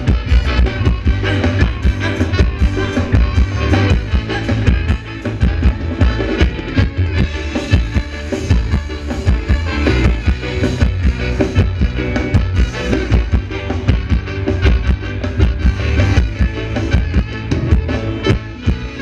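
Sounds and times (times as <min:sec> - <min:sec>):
live band playing dance music: 0:00.0 - 0:19.0.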